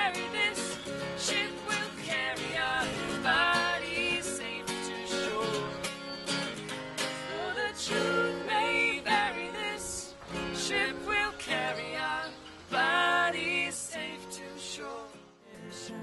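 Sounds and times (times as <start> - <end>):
woman and man singing: 0.0 - 6.2, 7.2 - 16.0
acoustic guitar strumming: 0.0 - 16.0.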